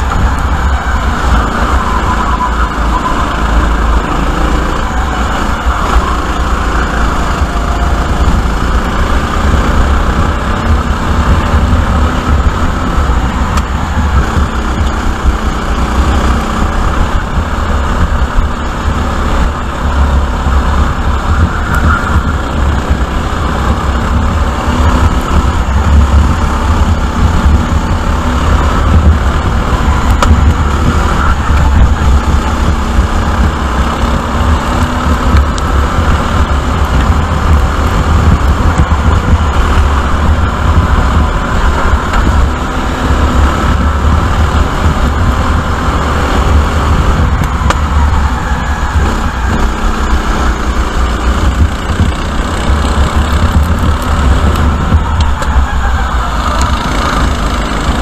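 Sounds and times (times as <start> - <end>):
heavy low rumble: 0.0 - 58.0
kart engine running hard: 0.0 - 58.0.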